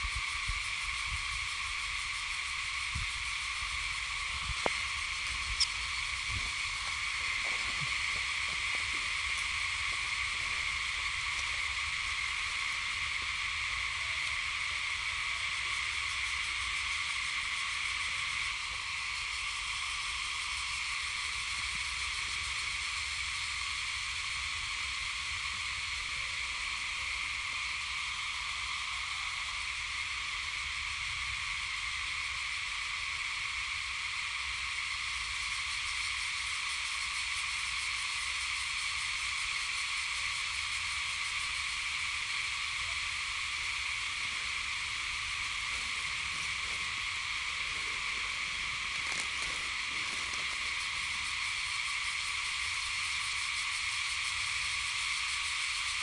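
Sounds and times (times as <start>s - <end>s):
insect chorus buzzing: 0.0s - 56.0s.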